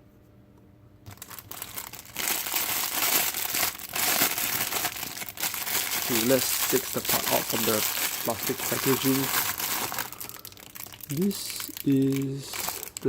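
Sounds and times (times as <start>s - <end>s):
plastic packaging crinkling: 1.1s - 13.0s.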